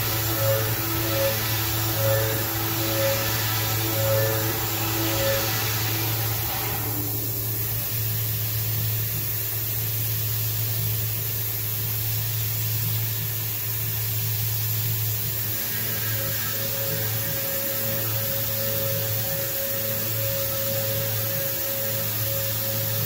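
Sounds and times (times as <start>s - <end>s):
coolant spray hissing: 0.0s - 23.0s
faint machine whine: 0.0s - 23.0s
milling machine hum: 0.0s - 23.0s.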